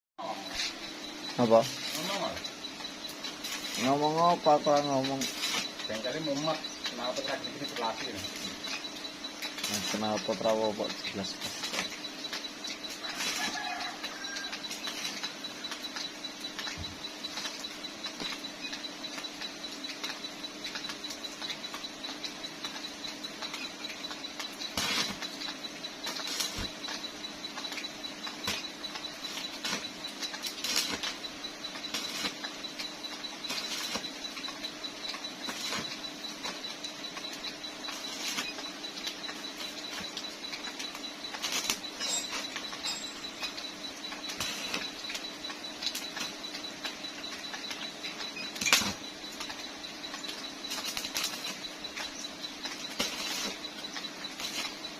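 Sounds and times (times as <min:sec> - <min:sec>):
arc welding crackling sizzle: 0:00.2 - 0:54.9
steady hum: 0:00.2 - 0:54.9.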